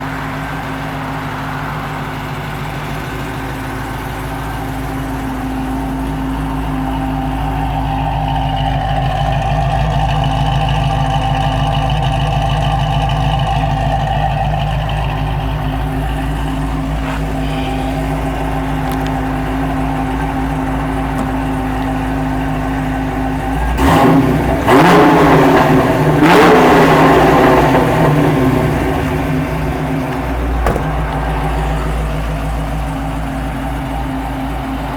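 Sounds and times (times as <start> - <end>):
car engine idling lumpy: 0.0 - 34.9
engine revving blips: 2.2 - 34.9.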